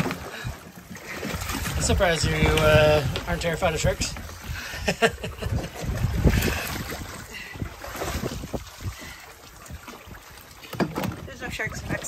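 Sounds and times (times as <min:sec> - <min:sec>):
water sloshing and splashing: 0:00.0 - 0:12.0
wind buffeting microphone: 0:01.3 - 0:12.0.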